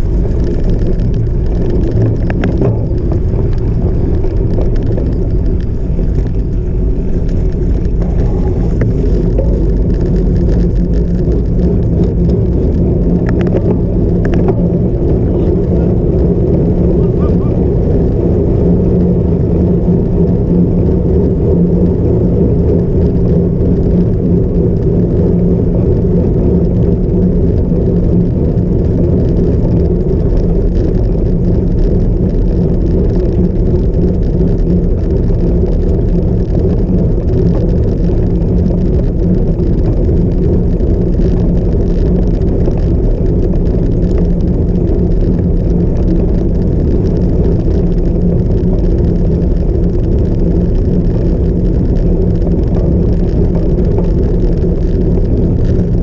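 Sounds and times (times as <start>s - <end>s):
bike tyres on rough ground: 0.0s - 56.0s
constant low hum: 0.0s - 56.0s
wind buffeting: 0.0s - 56.0s.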